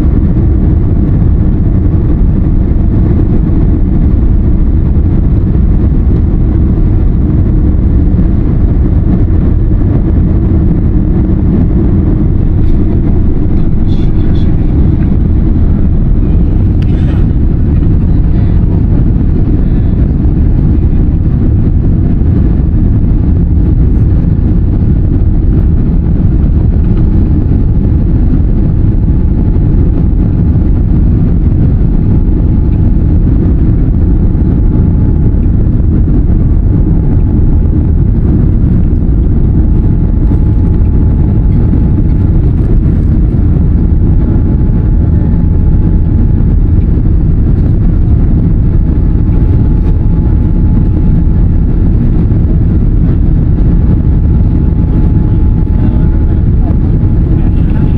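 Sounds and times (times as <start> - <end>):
airliner cabin engine rumble: 0.0 - 57.9.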